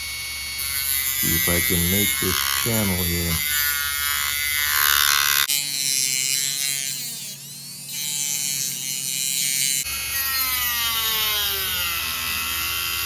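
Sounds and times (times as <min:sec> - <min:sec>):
rotary tool grinding: 0:00.0 - 0:13.0.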